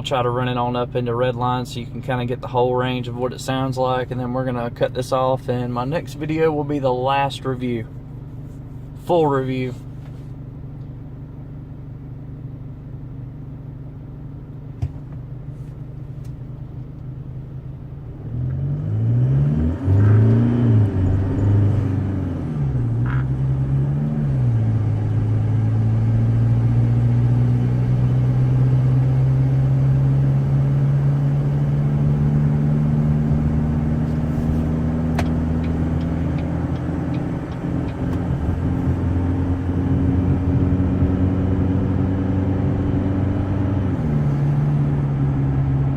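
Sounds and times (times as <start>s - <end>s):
diesel engine idling and accelerating: 0.0s - 45.9s.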